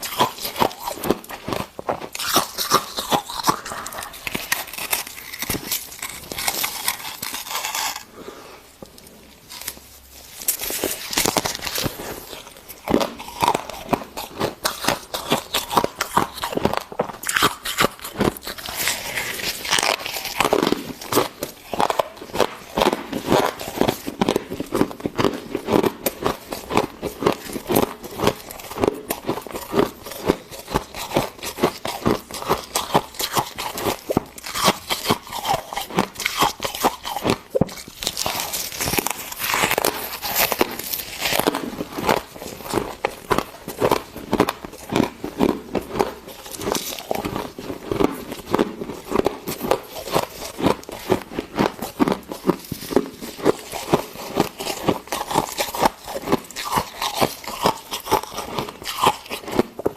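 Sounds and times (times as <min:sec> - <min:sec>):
person chewing crunchy ice: 0:00.0 - 0:59.9.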